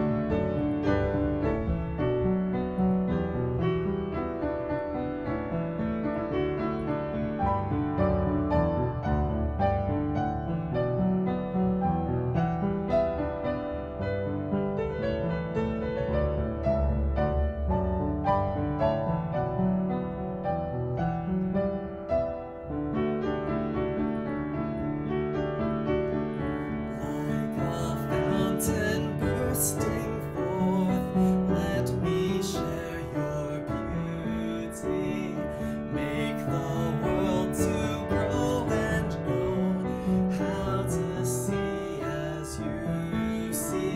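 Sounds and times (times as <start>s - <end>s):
gentle piano music: 0.0s - 43.9s.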